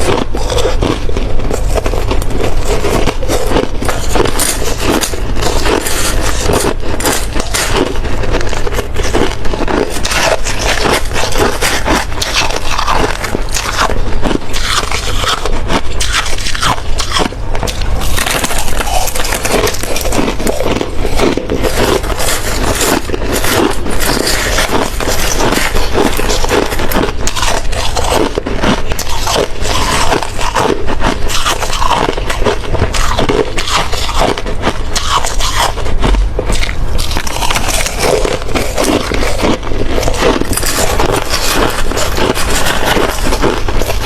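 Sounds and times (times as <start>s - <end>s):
chewing and crunching ice: 0.0s - 44.0s.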